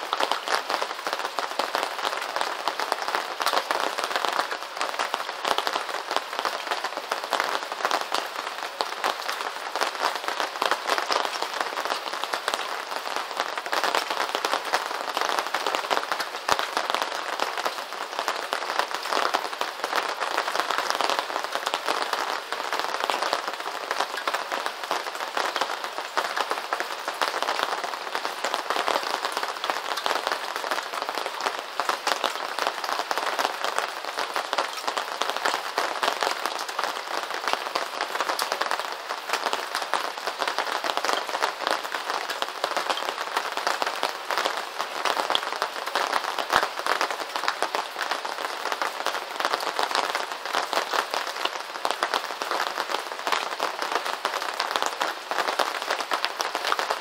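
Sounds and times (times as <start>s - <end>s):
steady rain patter: 0.0s - 57.0s.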